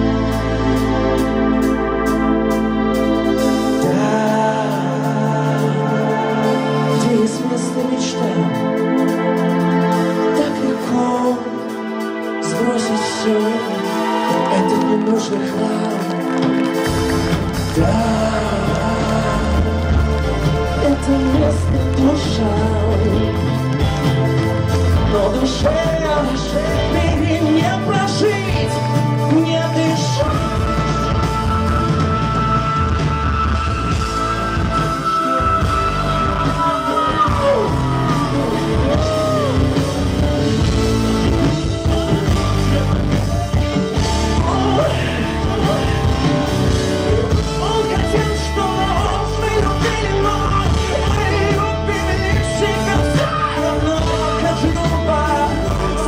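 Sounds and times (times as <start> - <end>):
live band playing: 0.0 - 56.0
man singing: 0.0 - 56.0.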